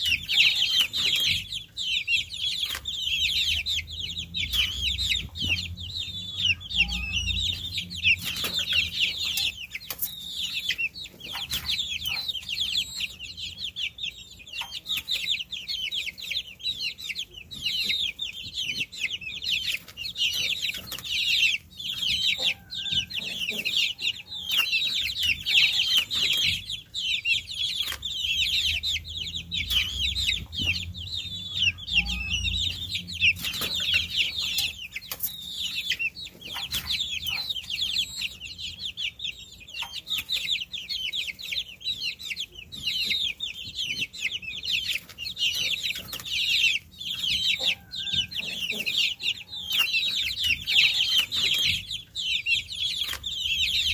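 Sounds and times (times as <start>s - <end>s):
baby chicks peeping: 0.0s - 53.9s.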